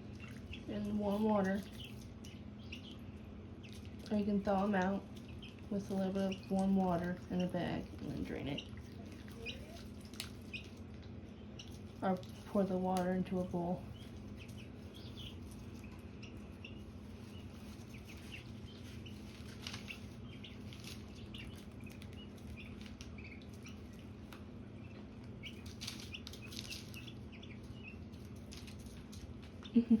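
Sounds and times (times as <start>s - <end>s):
ducklings peeping: 0.0s - 30.0s
steady low hum: 0.0s - 30.0s.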